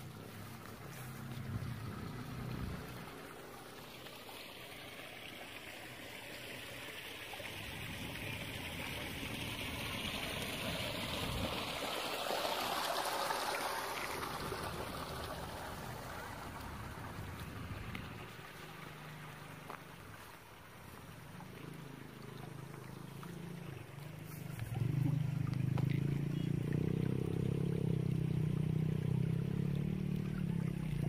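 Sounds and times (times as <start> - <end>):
running water: 0.0 - 31.0.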